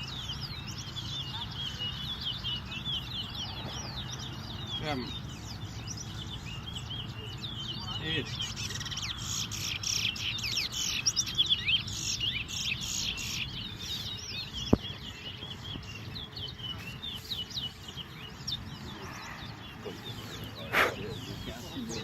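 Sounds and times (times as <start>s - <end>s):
finch twittering song: 0.0s - 22.0s.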